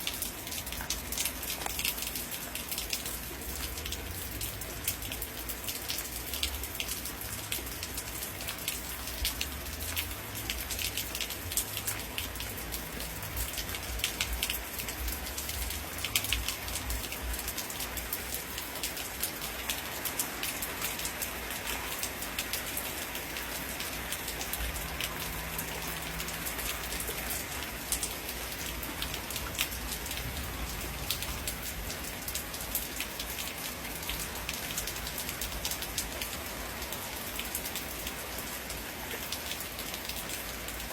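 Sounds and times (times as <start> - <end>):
raindrops pattering: 0.0 - 40.9.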